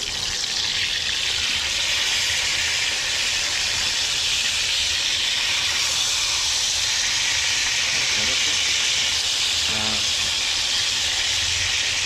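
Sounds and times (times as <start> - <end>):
eggplant sizzling in oil: 0.0 - 12.0.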